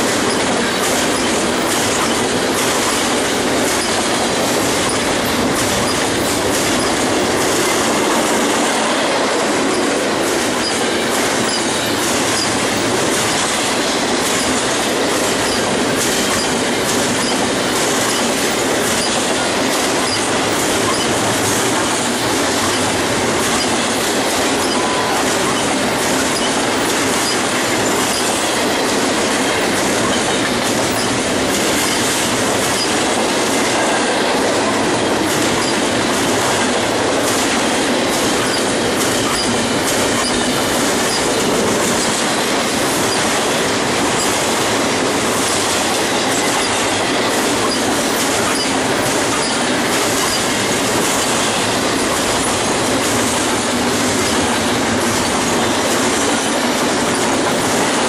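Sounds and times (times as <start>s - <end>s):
steel wheels rolling on rails: 0.0s - 58.0s.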